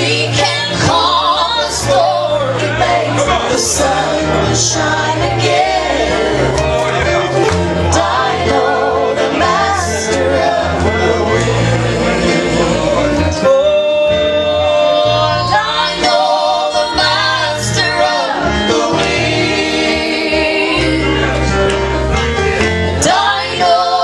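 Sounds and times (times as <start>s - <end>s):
gospel instrumental music: 0.0s - 24.0s.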